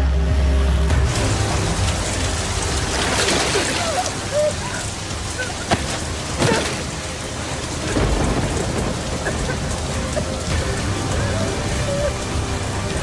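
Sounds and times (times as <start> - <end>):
heavy rain splashing: 0.0 - 13.0
thunder rumbling: 0.9 - 13.0.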